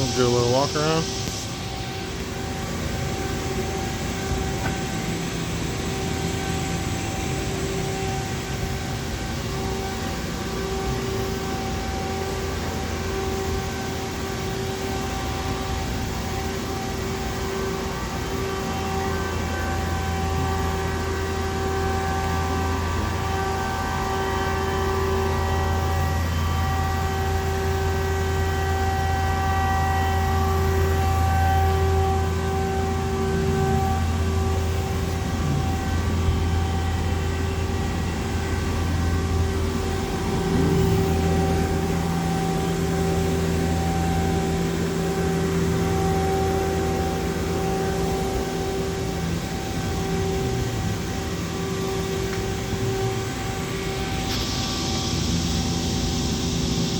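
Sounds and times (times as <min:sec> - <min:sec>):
machine motors humming: 0:00.0 - 0:56.9
whining tones: 0:00.0 - 0:56.9.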